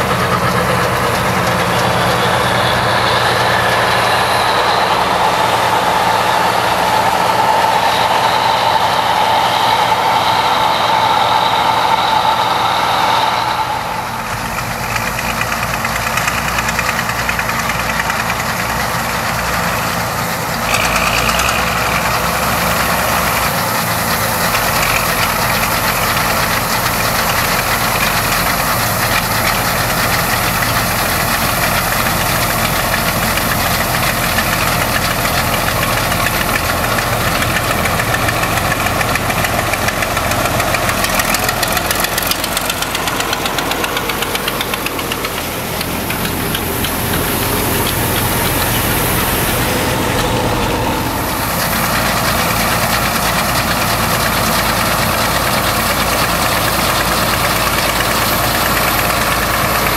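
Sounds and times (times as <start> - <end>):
loud engine drone: 0.0 - 59.9.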